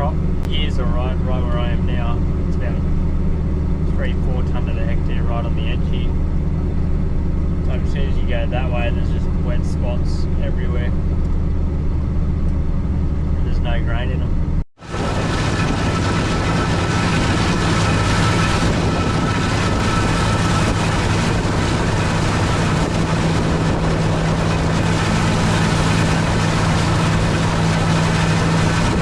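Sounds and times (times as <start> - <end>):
combine harvester engine and threshing drone: 0.0 - 29.0.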